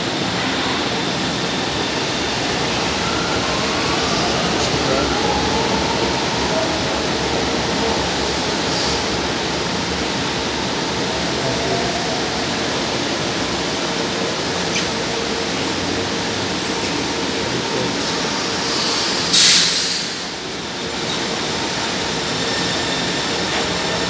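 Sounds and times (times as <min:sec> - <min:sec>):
trains running past: 0:00.0 - 0:24.0.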